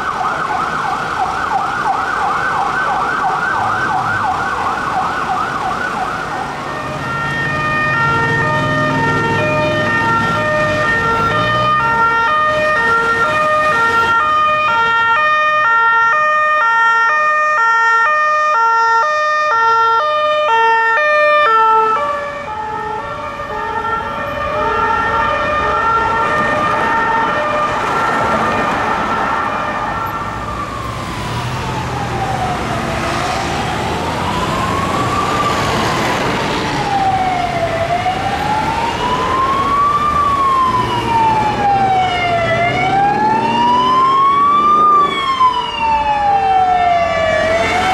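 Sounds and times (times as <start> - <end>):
fast warbling siren yelp: 0.0 - 36.0, 36.8 - 47.9
slow wailing siren: 0.0 - 47.9
two-tone siren: 0.0 - 47.9.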